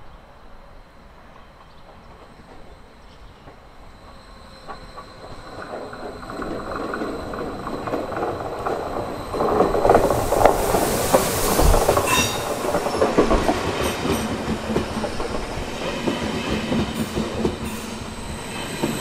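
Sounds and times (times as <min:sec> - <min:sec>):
train wheel and rail noise: 0:00.0 - 0:19.0
rail joint clicks: 0:01.3 - 0:19.0.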